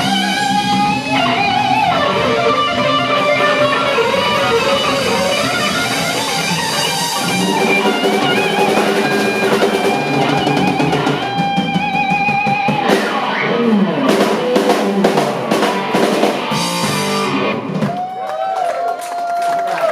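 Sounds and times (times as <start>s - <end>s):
drum kit and cymbals: 0.0s - 18.0s
overdriven electric guitar lead: 0.0s - 18.0s.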